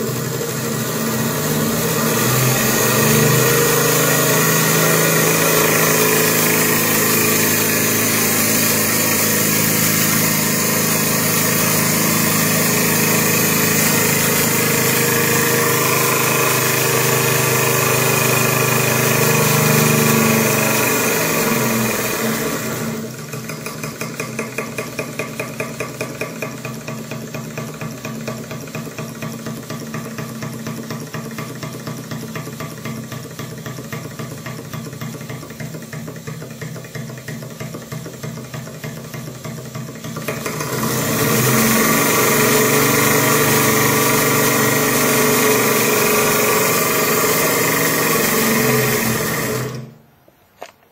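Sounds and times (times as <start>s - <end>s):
model steam engine running: 0.0s - 50.0s.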